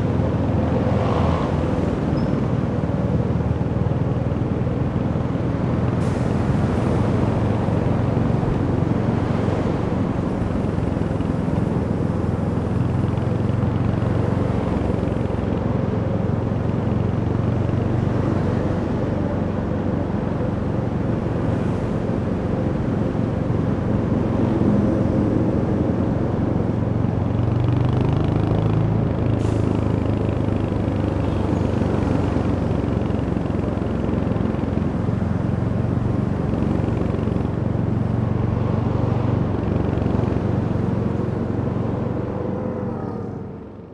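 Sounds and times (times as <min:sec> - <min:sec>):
road and wind noise: 0:00.0 - 0:43.9.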